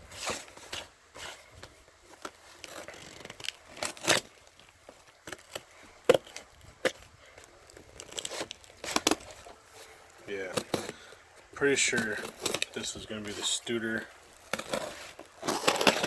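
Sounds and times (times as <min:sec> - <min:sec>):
packaging ripping and crinkling: 0:02.1 - 0:11.1, 0:11.8 - 0:16.0.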